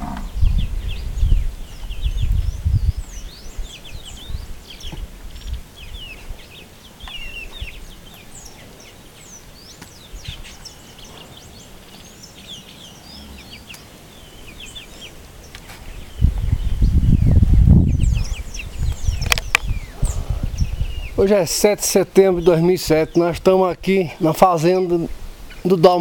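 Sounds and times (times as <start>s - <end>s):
small birds chirping and twittering: 0.0s - 26.0s.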